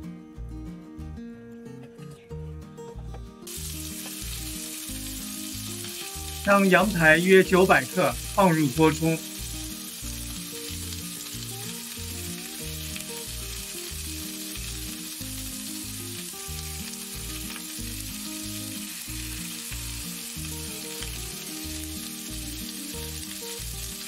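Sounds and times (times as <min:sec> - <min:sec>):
meat sizzling in hot oil: 0:03.5 - 0:24.0.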